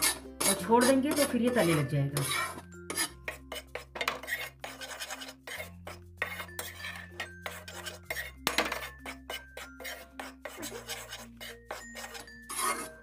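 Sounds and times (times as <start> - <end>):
metal spatula scraping pan: 0.0 - 13.0
soft background music: 0.0 - 13.0.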